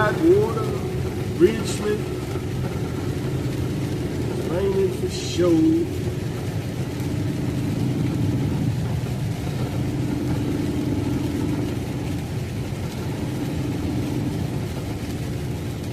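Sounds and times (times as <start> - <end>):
rain: 0.0 - 15.9
truck engine and road noise: 0.0 - 15.9.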